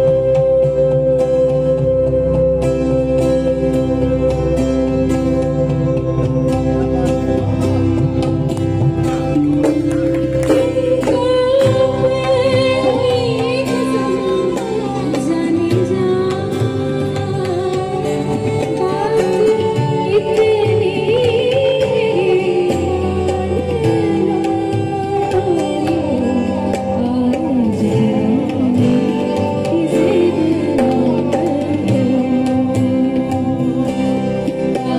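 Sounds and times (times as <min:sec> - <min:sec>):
person singing: 0:00.0 - 0:08.4, 0:10.2 - 0:34.9
instrumental accompaniment: 0:00.0 - 0:34.9.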